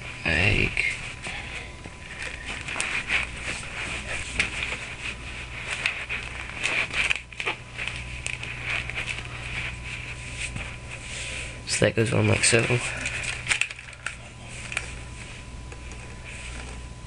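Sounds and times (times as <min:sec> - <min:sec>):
tube rustling and scraping: 0:02.0 - 0:17.0.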